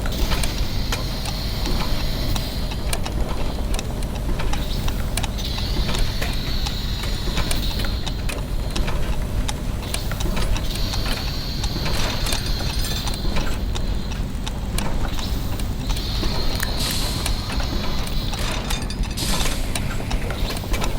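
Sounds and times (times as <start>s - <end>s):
clock mechanisms ticking: 0.0s - 20.9s
gears clicking: 0.0s - 20.9s.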